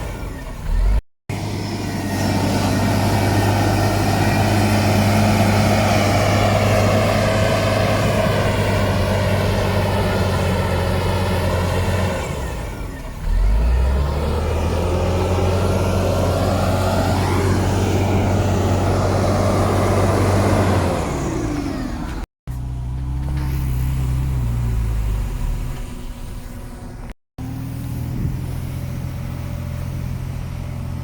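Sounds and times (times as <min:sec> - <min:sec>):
heavy diesel engines under load: 0:00.0 - 0:31.0.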